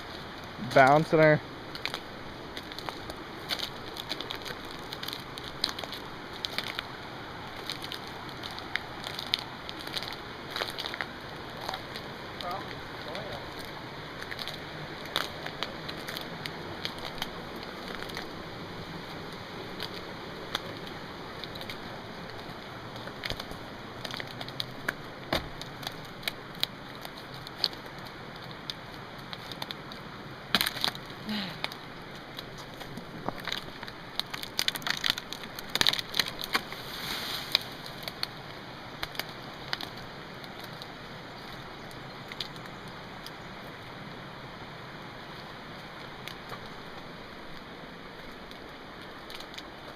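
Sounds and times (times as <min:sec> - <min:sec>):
rushing falling water: 0:00.0 - 0:42.2
sharp clicks and crackles: 0:01.7 - 0:06.9, 0:07.5 - 0:18.3, 0:19.8 - 0:43.8, 0:46.0 - 0:49.9
twigs snapping underfoot: 0:01.7 - 0:06.9, 0:07.5 - 0:18.3, 0:19.7 - 0:43.8, 0:45.9 - 0:49.9.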